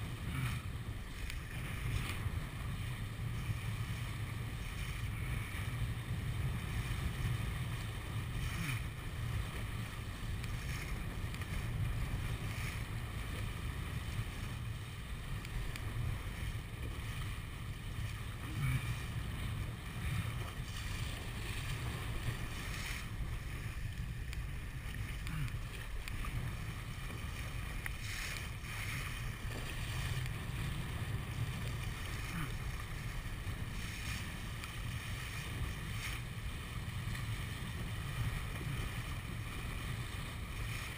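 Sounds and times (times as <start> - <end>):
water rushing along hull: 0.0 - 40.9.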